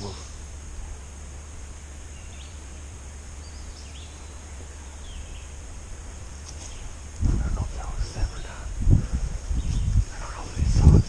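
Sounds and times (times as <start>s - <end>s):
high insect hum: 0.0s - 11.0s
songbird chirps: 0.0s - 11.0s
steady low rumble: 0.0s - 11.0s.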